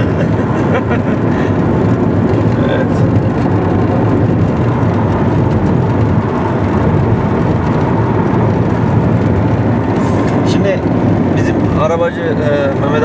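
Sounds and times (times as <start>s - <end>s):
car engine and tyre noise: 0.0s - 13.0s
tyres on wet asphalt: 0.0s - 13.0s.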